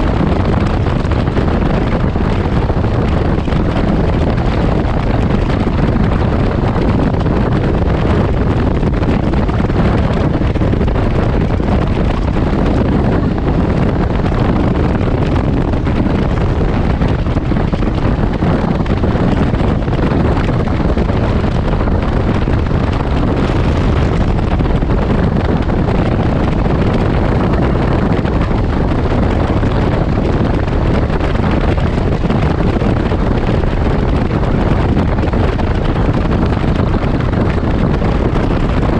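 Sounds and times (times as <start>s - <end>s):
road noise: 0.0s - 38.9s
vehicle engine: 0.0s - 38.9s
wind buffeting microphone: 0.0s - 38.9s.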